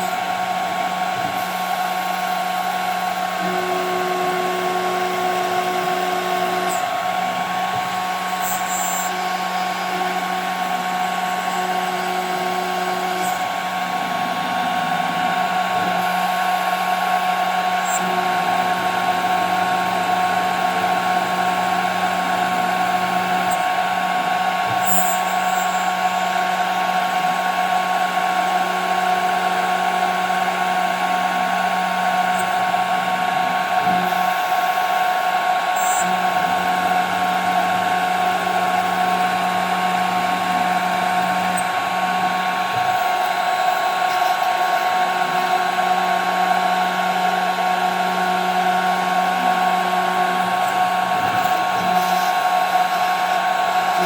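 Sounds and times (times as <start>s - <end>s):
machine spindle whine: 0.0s - 54.0s.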